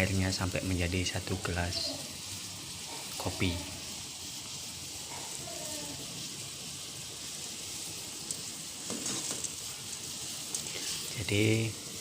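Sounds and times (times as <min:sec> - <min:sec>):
pot boiling hard: 0:00.0 - 0:12.0.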